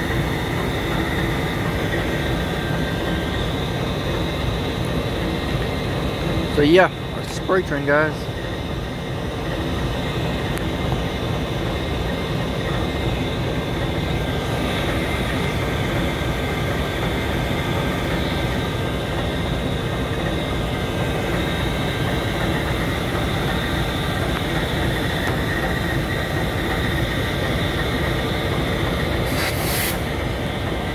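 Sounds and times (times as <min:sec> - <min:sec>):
diesel locomotive idling: 0:00.0 - 0:30.9.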